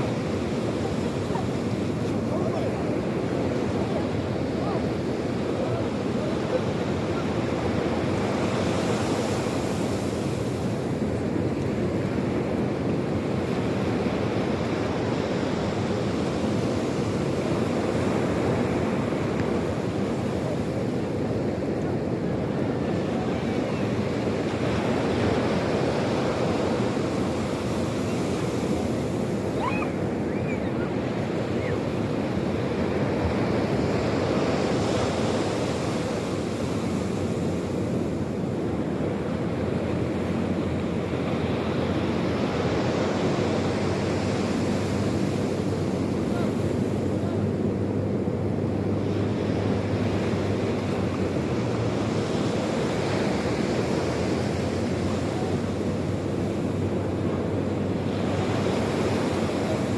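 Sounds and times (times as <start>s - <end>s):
waves washing ashore: 0.0s - 59.9s.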